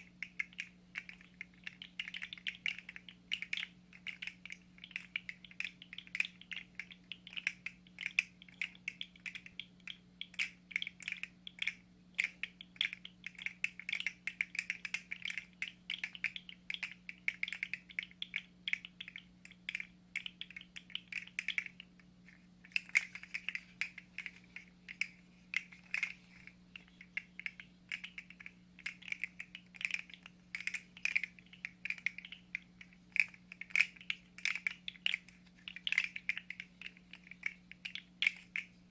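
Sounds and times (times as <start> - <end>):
plastic segments clicking and rattling: 0.0 - 38.9
steady low hum: 0.0 - 38.9.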